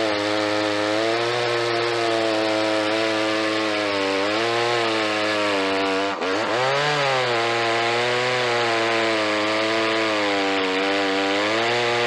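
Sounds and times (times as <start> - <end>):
chain cutting through wood: 0.0 - 12.0
chainsaw at full throttle: 0.0 - 12.0.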